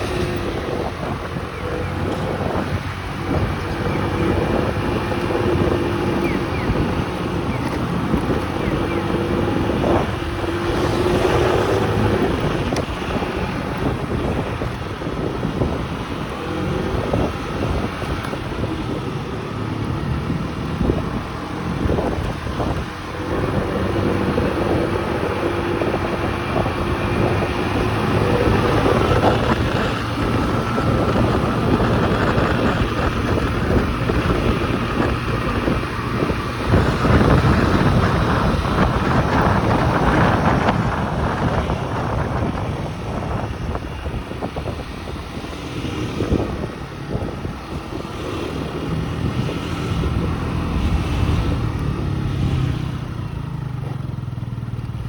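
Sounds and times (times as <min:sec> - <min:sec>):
small motorcycle engine: 0:00.0 - 0:55.0
wind rushing over microphone: 0:00.0 - 0:55.0.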